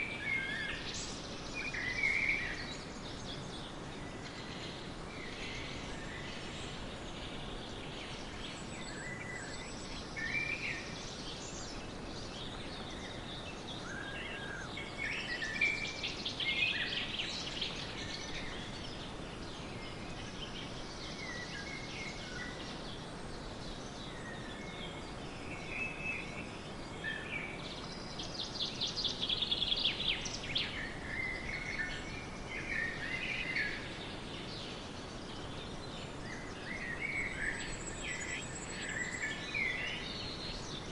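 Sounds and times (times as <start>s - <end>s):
birds chirping and singing: 0.0s - 40.9s
steady background hiss: 0.0s - 40.9s.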